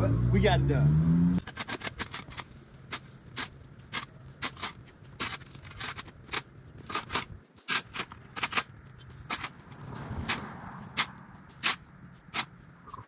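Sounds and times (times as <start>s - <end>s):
short scrapes and clicks: 1.4s - 13.0s.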